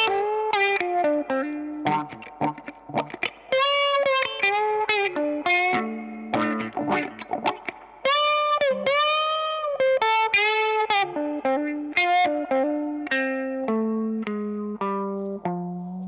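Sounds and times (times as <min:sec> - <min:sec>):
electric guitar with wah pedal: 0:00.0 - 0:16.0.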